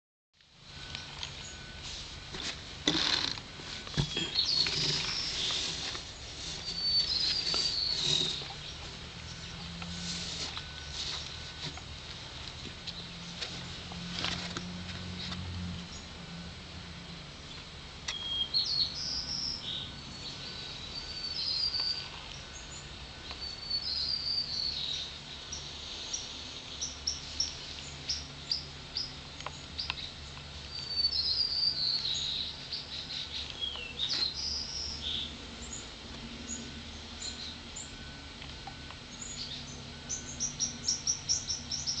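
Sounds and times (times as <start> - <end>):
birds singing: 0.7 - 1.8, 2.9 - 11.9, 17.0 - 42.0.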